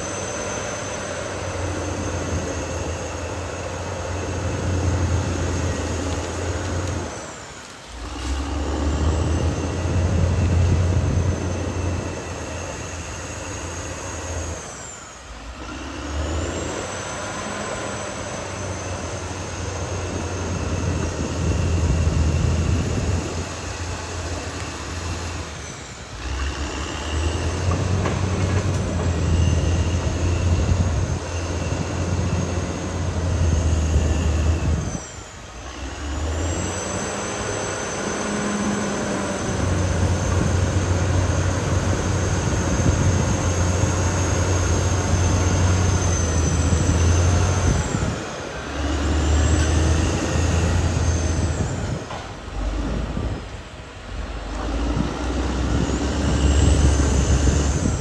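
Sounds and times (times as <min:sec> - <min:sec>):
bulldozer diesel engine drone: 0:00.0 - 0:58.0
high-pitched whine: 0:00.0 - 0:58.0.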